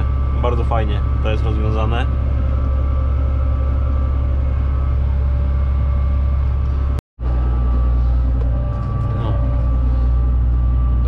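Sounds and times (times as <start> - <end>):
steady whine: 0.0 - 11.0
tractor diesel engine drone: 0.0 - 11.0.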